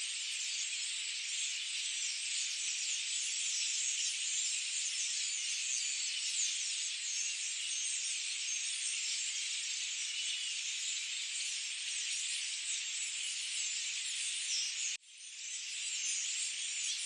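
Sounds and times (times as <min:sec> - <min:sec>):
birds chirping and trilling: 0:00.1 - 0:17.0.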